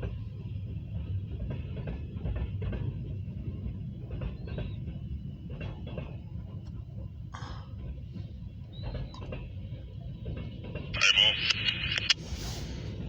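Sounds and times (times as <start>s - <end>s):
train cars clanking: 0.0s - 11.0s
freight train rumbling past: 0.0s - 13.0s.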